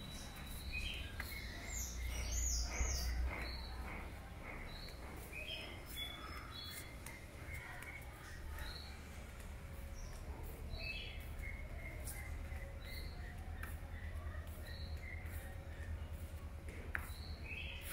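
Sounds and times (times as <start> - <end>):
birds chirping: 0.0 - 17.9
low outdoor rumble: 0.0 - 17.9.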